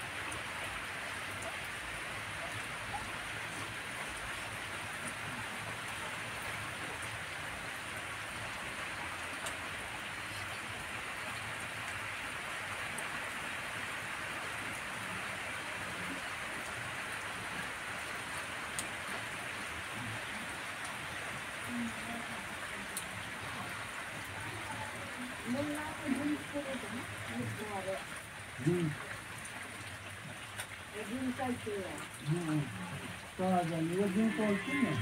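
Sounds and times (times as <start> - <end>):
rain falling on leaves: 0.0 - 35.0.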